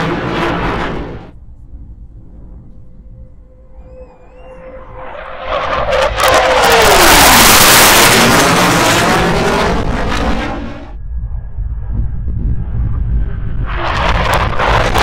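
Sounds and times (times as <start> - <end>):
jets passing low overhead: 0.0 - 15.0
whining tone dropping in pitch: 0.0 - 15.0.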